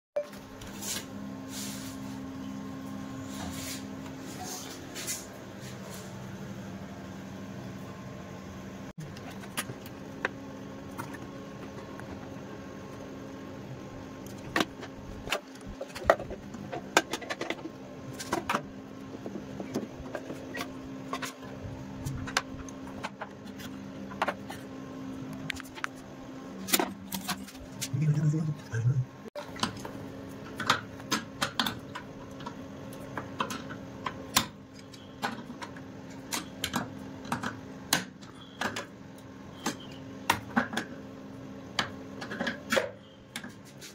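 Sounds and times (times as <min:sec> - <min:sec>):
low mechanical hum: 0:00.2 - 0:43.9.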